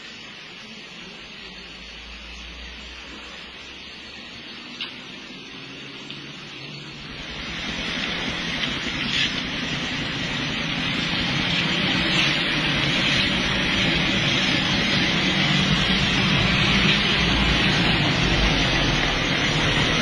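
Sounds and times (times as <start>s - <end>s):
cars on a wet road: 0.0s - 20.0s
steady rain: 0.0s - 20.0s.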